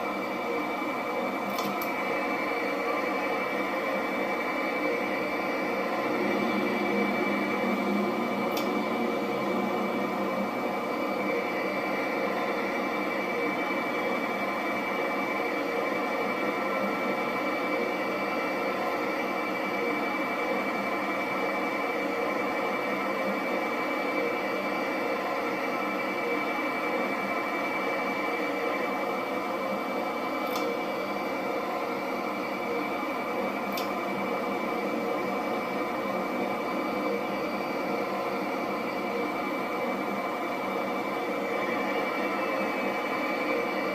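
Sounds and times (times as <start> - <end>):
jet engine with high whine: 0.0 - 43.9.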